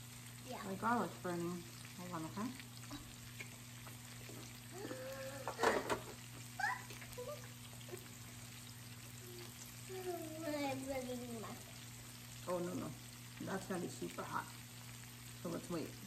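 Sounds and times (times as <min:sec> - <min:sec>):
meat sizzling on grill: 0:00.0 - 0:16.0.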